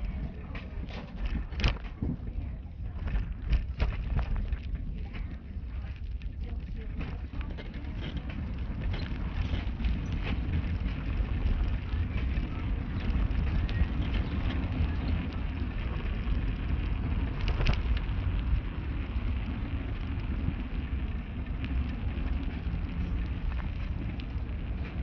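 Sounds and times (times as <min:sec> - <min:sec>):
road and tyre rumble: 0:00.0 - 0:25.0.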